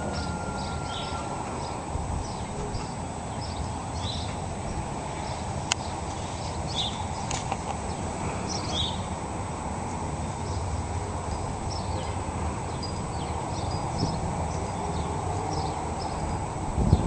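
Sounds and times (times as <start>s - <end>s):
small birds chirping: 0.0s - 9.2s, 9.9s - 17.0s.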